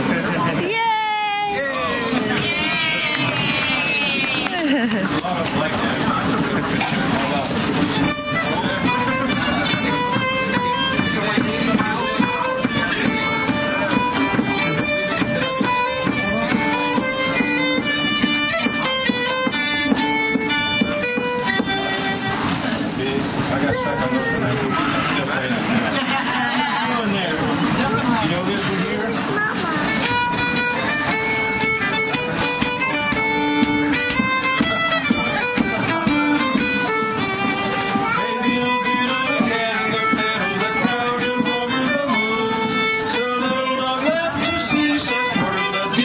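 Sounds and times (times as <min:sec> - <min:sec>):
fiddle playing lively tune: 0:00.0 - 0:46.0.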